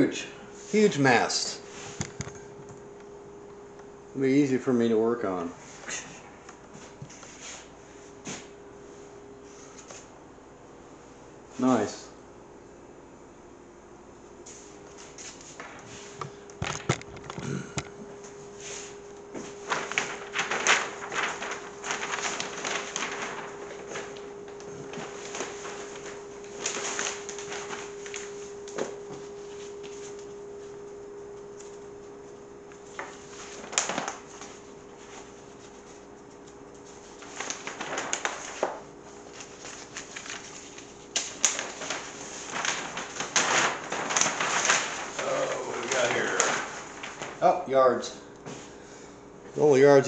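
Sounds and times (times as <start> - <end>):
steady hum: 0.0 - 50.0
paper sheets rustling: 0.6 - 2.2, 4.8 - 10.1, 14.4 - 17.4, 18.2 - 48.9.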